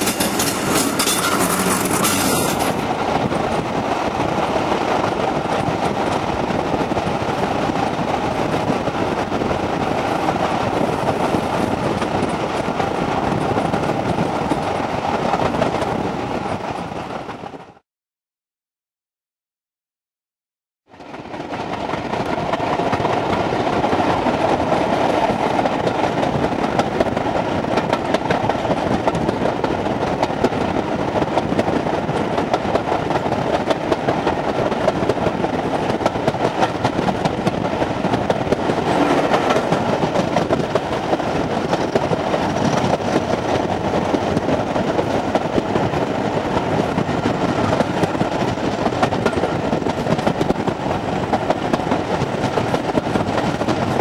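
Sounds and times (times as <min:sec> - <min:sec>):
train wheels rumbling on rails: 0:00.0 - 0:17.8, 0:21.0 - 0:54.0.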